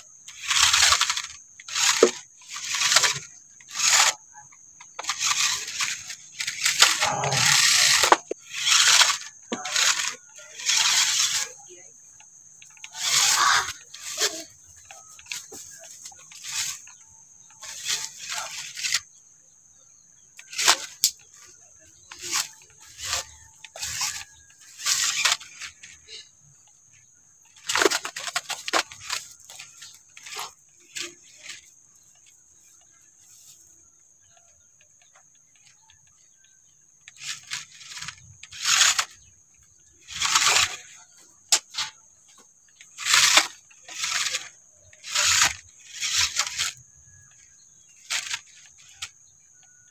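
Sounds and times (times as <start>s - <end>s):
tyres scrabbling on dirt: 0.0s - 19.3s, 20.0s - 49.9s
toy truck motor whirring: 0.0s - 49.9s.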